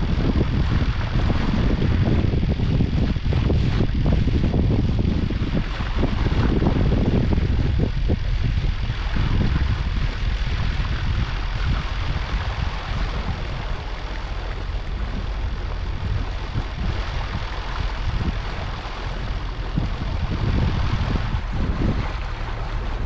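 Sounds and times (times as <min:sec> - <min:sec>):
boat engine droning: 0:00.0 - 0:23.0
hiss of water and air: 0:00.0 - 0:23.0
wind buffeting microphone: 0:00.0 - 0:23.0.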